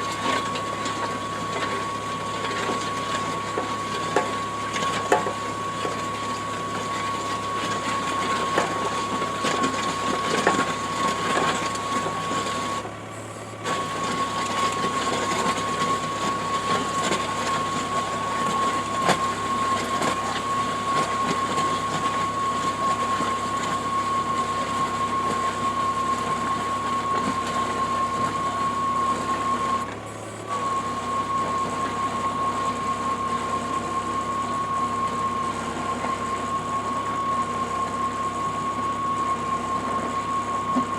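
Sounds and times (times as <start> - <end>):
earth auger drilling: 0.0 - 40.9.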